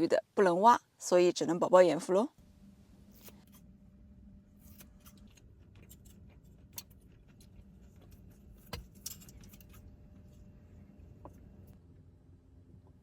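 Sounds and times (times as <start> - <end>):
faint low rumble: 2.1 - 13.0.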